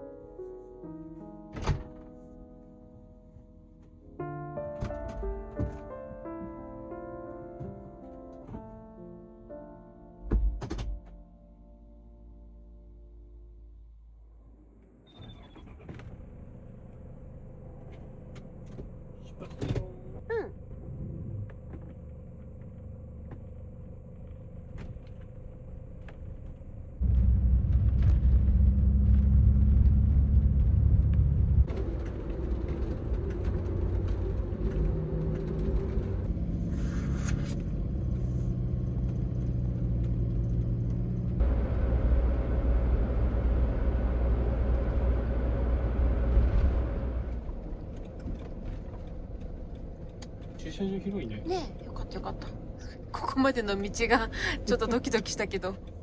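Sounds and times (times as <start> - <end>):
van road and engine rumble: 0.0 - 9.5, 13.6 - 56.0.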